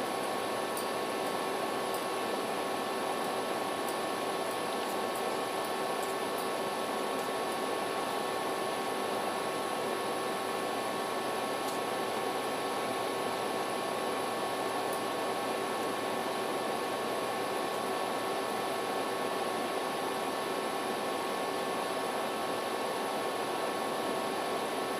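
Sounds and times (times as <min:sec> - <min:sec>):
faint humming tones: 0:00.0 - 0:24.9.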